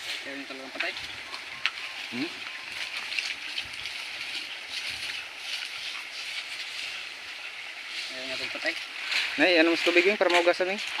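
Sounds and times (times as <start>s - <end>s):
stream running over stones: 0.0s - 11.0s.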